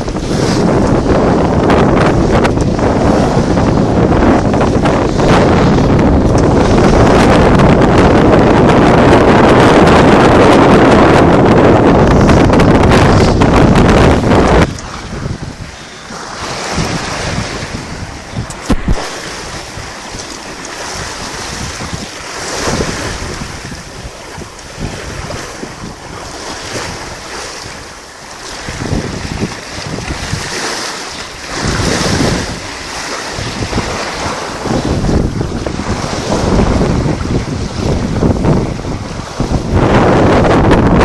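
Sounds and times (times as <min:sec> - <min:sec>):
waves rushing against boat: 0:00.0 - 0:41.0
wind blasting microphone: 0:00.0 - 0:41.0.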